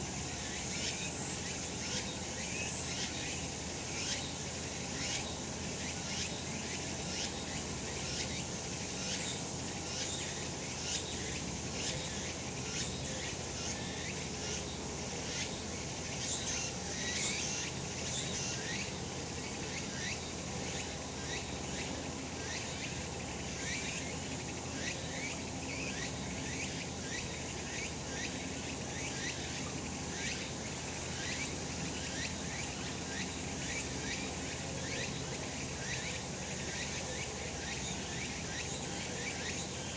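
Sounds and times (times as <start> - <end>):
cicadas singing in chorus: 0.0 - 39.9.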